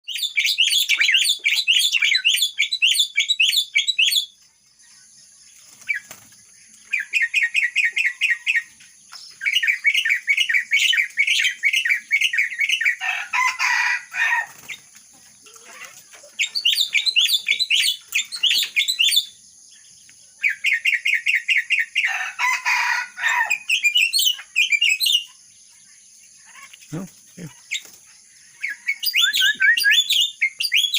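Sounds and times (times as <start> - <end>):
bird chirping song: 0.0 - 30.9
harsh bird calls: 0.0 - 30.9.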